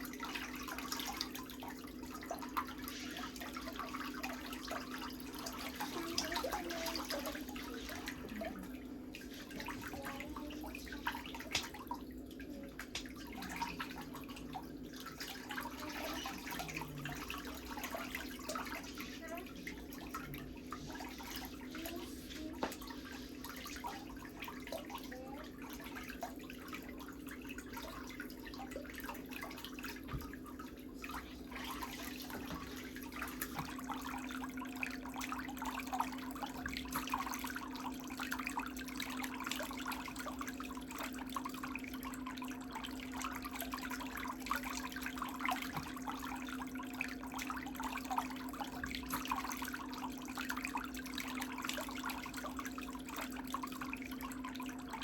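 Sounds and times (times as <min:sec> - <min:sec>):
steady low hum: 0:00.0 - 0:55.0
water trickling and splashing: 0:00.0 - 0:55.0.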